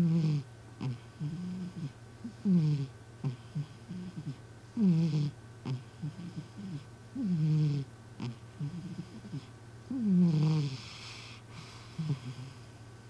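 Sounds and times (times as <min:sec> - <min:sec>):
cat snoring: 0:00.0 - 0:12.7
soft snuffling breaths: 0:00.0 - 0:12.8.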